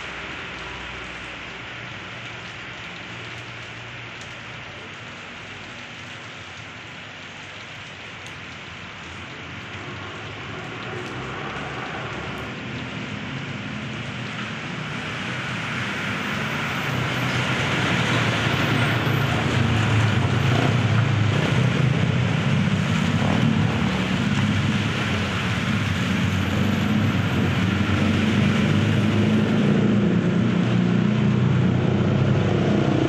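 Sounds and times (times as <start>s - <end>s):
rain on wet asphalt: 0.0s - 33.0s
traffic hum: 0.0s - 33.0s.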